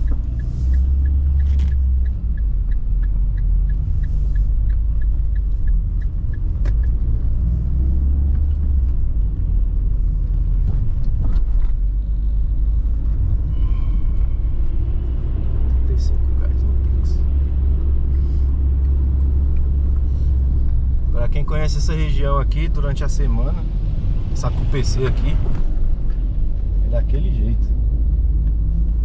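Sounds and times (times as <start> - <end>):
car engine and road rumble: 0.0 - 29.0
turn signal ticking: 0.0 - 29.0.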